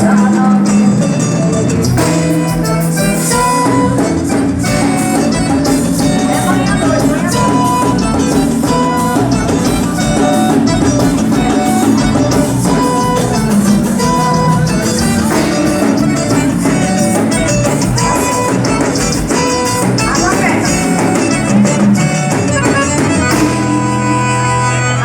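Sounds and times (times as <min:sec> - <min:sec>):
band playing music: 0:00.0 - 0:25.0
drum kit beat: 0:00.0 - 0:25.0
guitar: 0:00.0 - 0:25.0.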